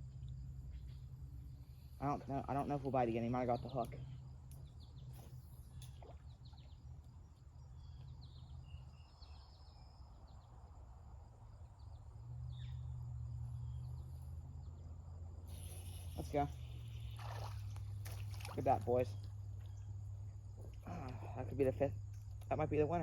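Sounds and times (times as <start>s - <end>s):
faint bird chirps: 0.2s - 10.8s, 11.7s - 22.0s.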